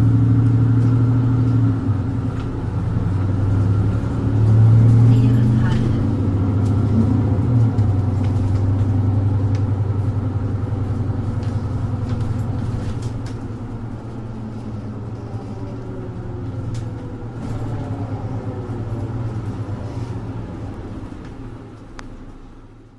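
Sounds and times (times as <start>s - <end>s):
bus engine drone: 0.0s - 22.9s.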